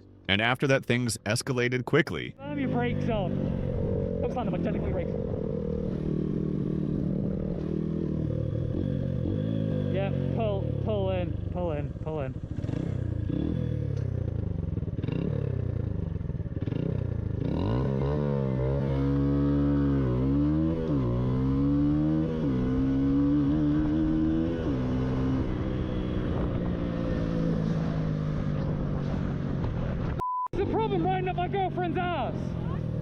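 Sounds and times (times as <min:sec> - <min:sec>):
road and wind noise: 0:00.0 - 0:33.0
motorcycle accelerating through gears: 0:02.4 - 0:30.2.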